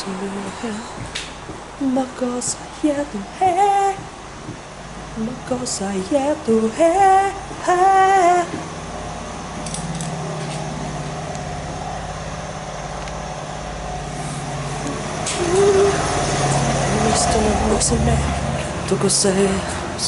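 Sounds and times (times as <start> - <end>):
electric train carriage hum: 0.0 - 20.0.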